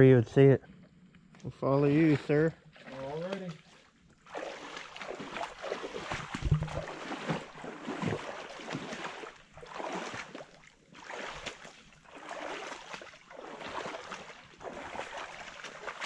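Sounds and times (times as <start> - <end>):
feet wading through water: 1.8 - 16.0.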